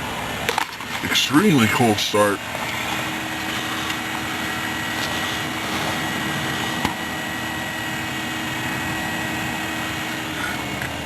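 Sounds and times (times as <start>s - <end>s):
car engine idling: 0.0s - 11.0s
faint steady whine: 0.0s - 11.0s.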